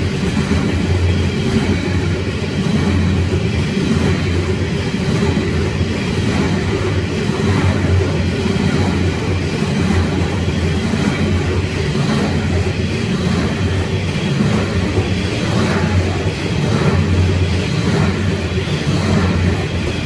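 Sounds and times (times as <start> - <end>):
train wagons rumbling on rails: 0.0 - 20.0.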